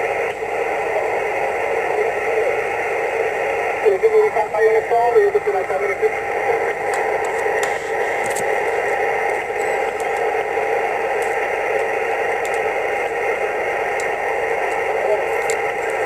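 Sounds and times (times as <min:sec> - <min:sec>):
faint radio crackles: 0:00.0 - 0:16.0
radio static hiss: 0:00.0 - 0:16.0.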